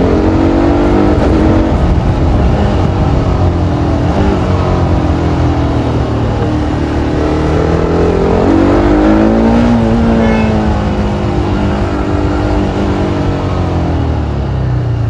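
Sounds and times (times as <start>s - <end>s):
motorcycle engine revving: 0.0s - 15.0s
traffic: 0.0s - 15.0s.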